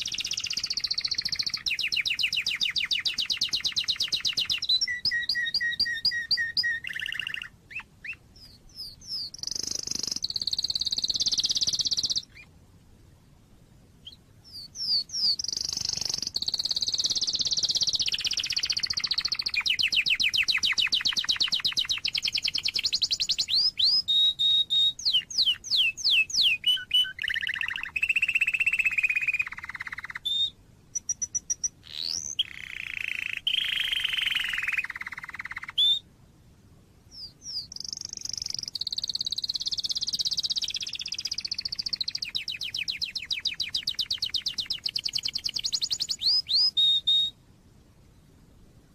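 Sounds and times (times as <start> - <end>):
canary singing trills: 0.0 - 12.5, 14.0 - 36.1, 37.1 - 47.4.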